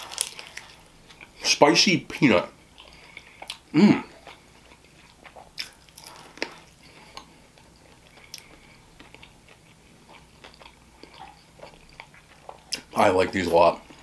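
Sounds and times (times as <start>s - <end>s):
chewing crunches: 0.0s - 1.4s, 2.7s - 13.0s.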